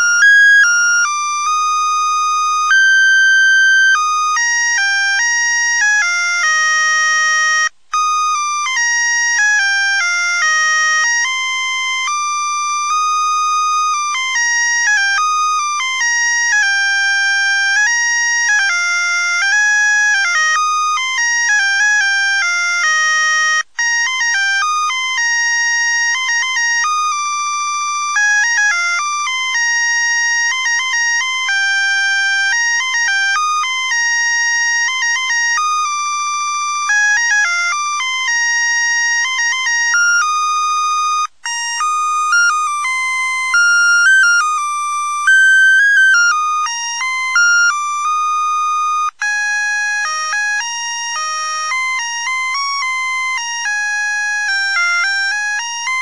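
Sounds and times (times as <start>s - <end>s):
tinny electronic beeping carol melody: 0.0s - 56.0s.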